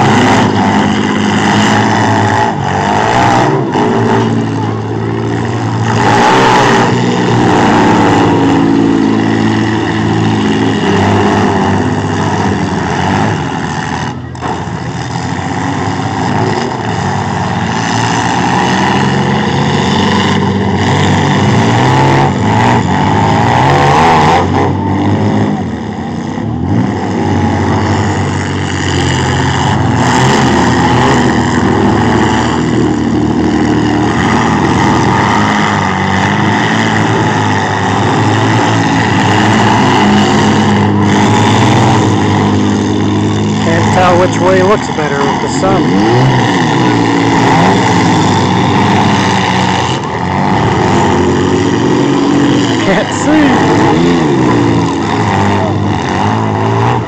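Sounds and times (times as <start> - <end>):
truck engines revving: 0.0 - 57.0.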